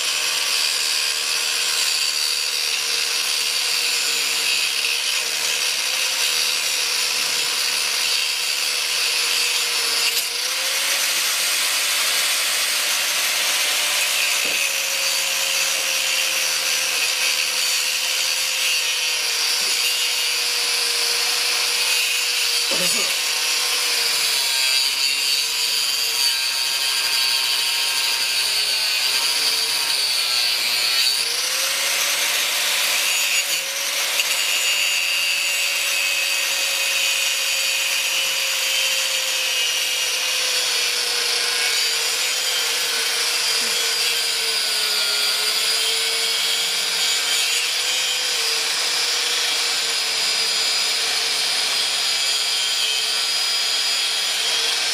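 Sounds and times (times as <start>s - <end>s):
angle grinder cutting steel: 0.0s - 54.9s.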